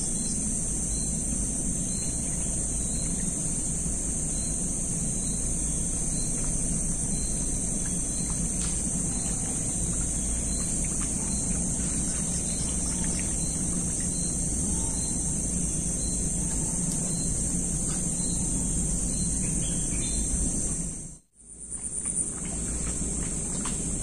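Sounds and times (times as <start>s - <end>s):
insects droning high whine: 0.0s - 24.0s.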